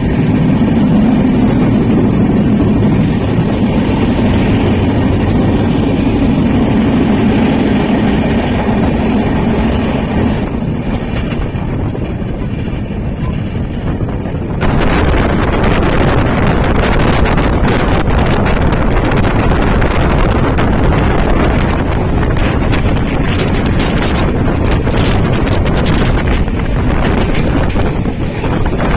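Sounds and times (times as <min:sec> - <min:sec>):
train rumble: 0:00.0 - 0:28.9
wind rushing across microphone: 0:00.0 - 0:28.9.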